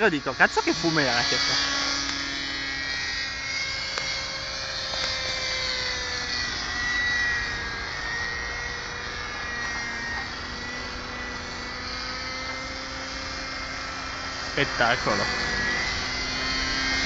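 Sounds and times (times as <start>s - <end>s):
model helicopter engine whining: 0.0s - 17.0s.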